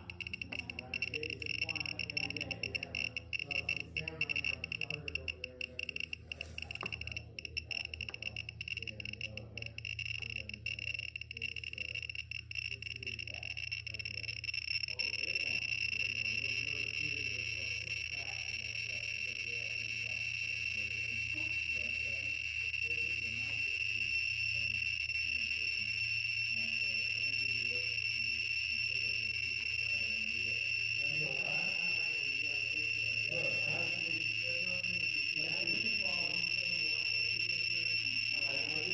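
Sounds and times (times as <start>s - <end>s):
geiger counter alarm tone: 0.0s - 38.9s
geiger counter rapid clicks: 0.0s - 38.9s.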